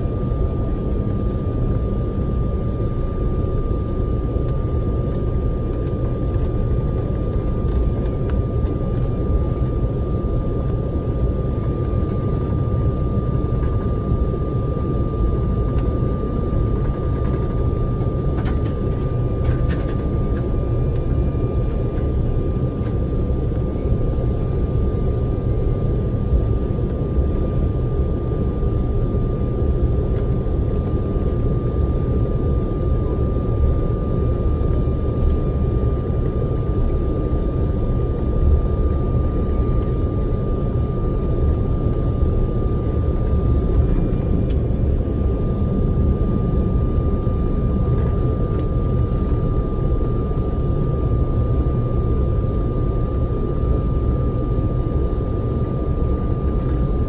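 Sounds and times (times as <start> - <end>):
aircraft cabin low rumble: 0.0 - 57.0
high-pitched jet engine whine: 0.0 - 57.0.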